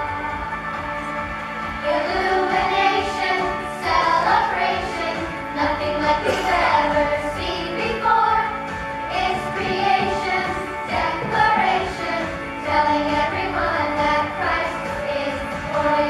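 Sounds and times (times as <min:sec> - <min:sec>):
children singing: 0:00.0 - 0:16.0
instrumental accompaniment: 0:00.0 - 0:16.0.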